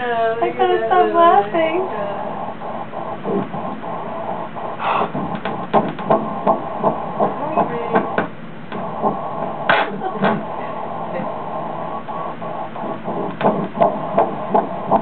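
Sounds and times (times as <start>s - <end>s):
fetal heartbeat on doppler: 0.4s - 15.0s.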